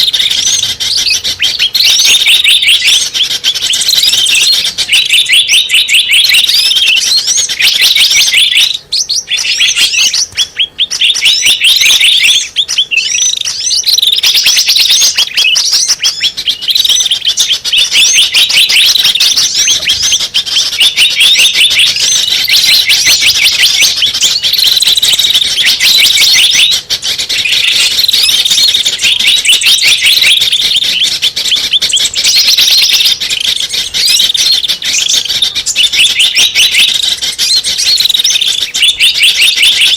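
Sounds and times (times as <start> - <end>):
rapid high bird chirps and trills: 0.0 - 39.9.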